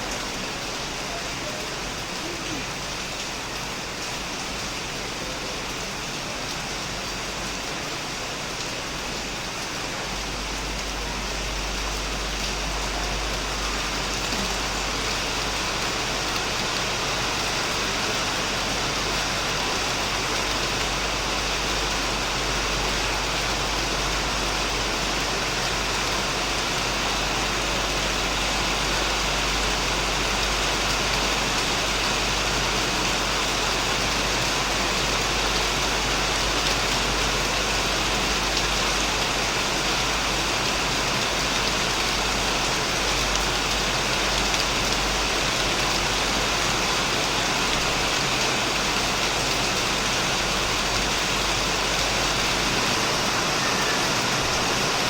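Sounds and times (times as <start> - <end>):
heavy rain on a shed roof: 0.0 - 55.0.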